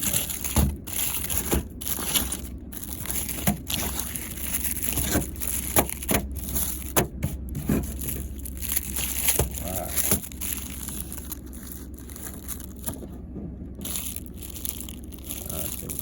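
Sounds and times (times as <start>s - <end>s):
packaging rustling and crinkling: 0.0s - 13.2s, 13.8s - 16.0s.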